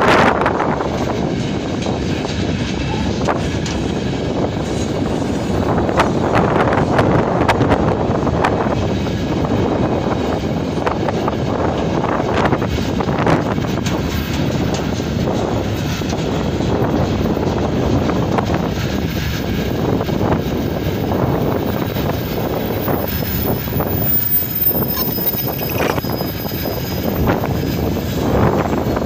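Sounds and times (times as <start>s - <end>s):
freight train rumbling on rails: 0.0s - 29.0s
wind buffeting microphone: 0.0s - 29.0s.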